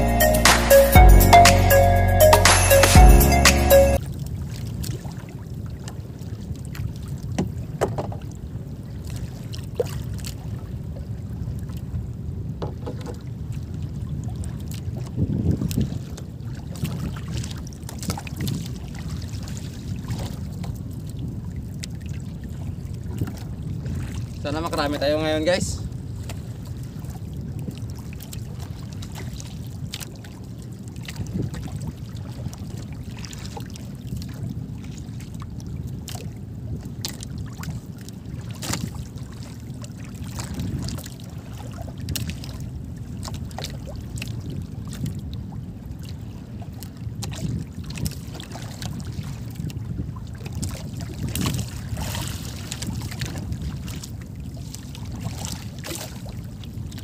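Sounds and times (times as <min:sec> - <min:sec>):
low wind rumble on microphone: 0:04.0 - 0:24.5, 0:25.5 - 0:57.0
water lapping against boat hull: 0:04.2 - 0:57.0.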